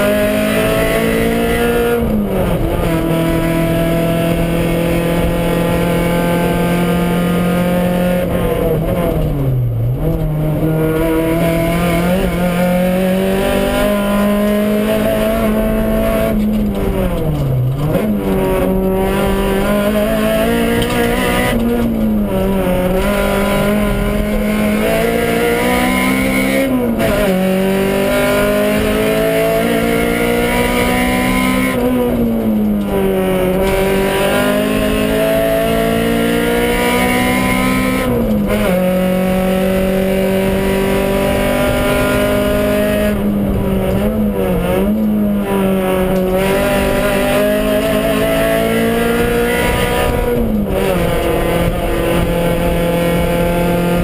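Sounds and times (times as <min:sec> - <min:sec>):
car engine revving in cabin: 0:00.0 - 0:54.0.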